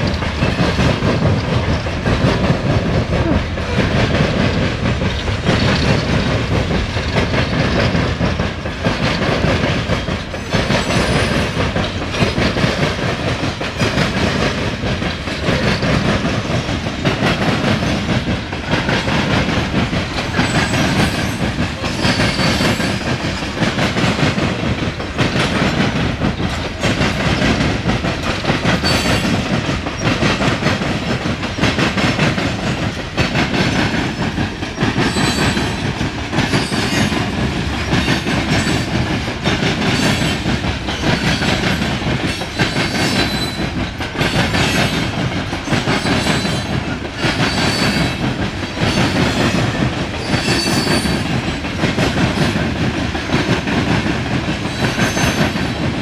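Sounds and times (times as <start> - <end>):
freight cars rumbling and clattering: 0.0 - 56.0.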